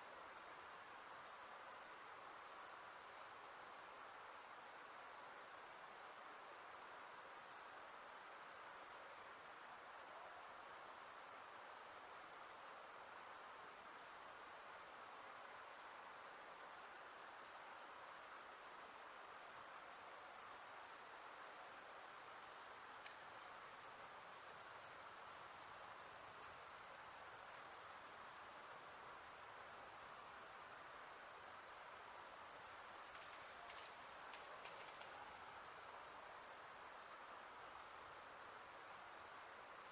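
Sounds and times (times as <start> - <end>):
faint forest background: 0.0 - 39.9
crickets trilling: 0.2 - 39.9.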